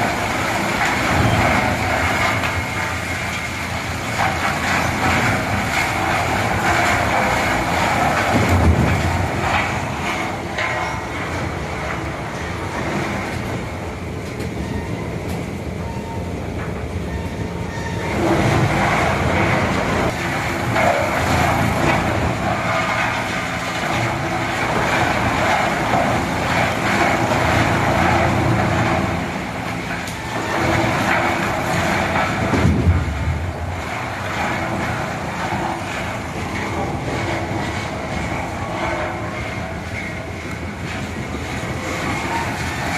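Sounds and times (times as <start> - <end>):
wood chipper humming: 0.0 - 42.9.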